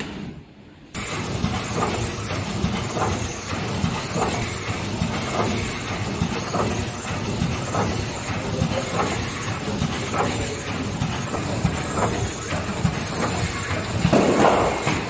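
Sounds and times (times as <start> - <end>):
packing machine clatter and hiss: 1.0 - 15.0.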